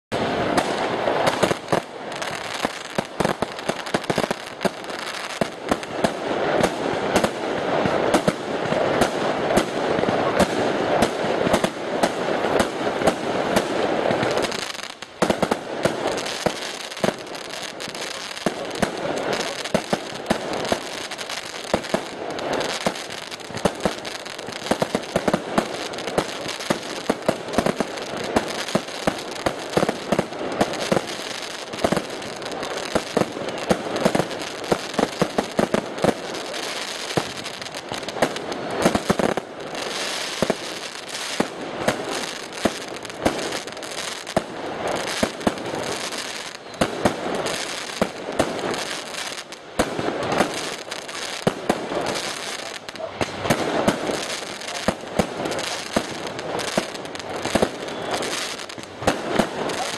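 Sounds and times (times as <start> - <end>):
firecrackers crackling: 0.1 - 59.9
fireworks bangs: 0.1 - 59.9.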